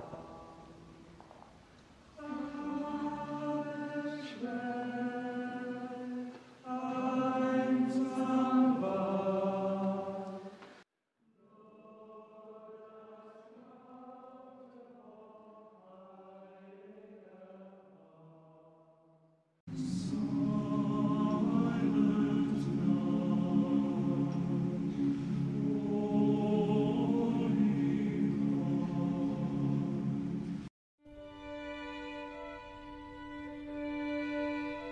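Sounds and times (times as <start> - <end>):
choir singing long notes: 0.0 - 1.4, 2.2 - 10.8, 11.4 - 18.2, 19.7 - 34.9.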